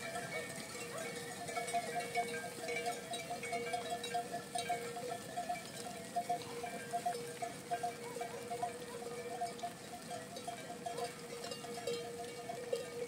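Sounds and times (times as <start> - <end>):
livestock bells clanking: 0.0 - 13.0.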